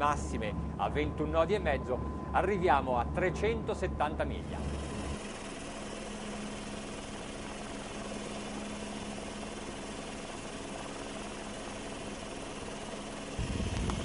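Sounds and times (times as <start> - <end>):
helicopter rotor drone: 0.0 - 14.0.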